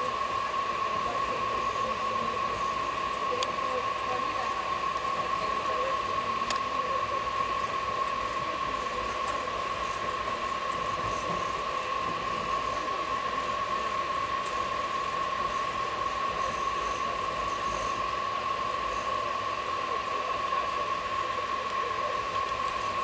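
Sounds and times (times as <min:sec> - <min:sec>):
air conditioning hiss: 0:00.0 - 0:23.0
high-pitched whine: 0:00.0 - 0:23.0.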